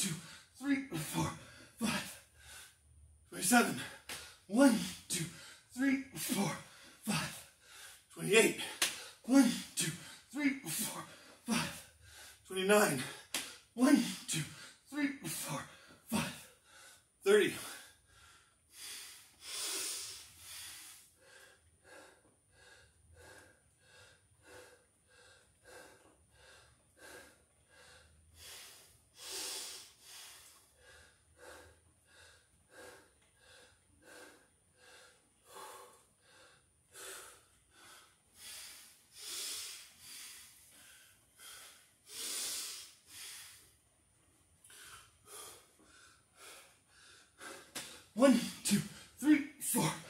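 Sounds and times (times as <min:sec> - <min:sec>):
man panting heavily: 0:00.0 - 0:02.8, 0:03.4 - 0:43.9, 0:44.6 - 0:50.0.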